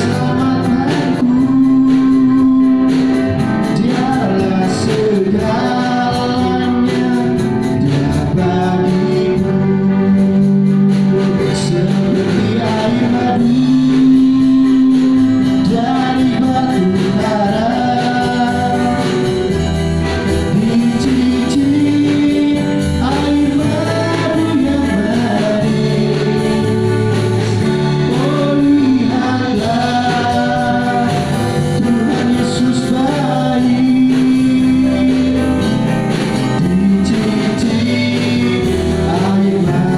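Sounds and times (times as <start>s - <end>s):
band accompaniment: 0.0s - 39.9s
vocal group singing gospel: 0.0s - 39.9s.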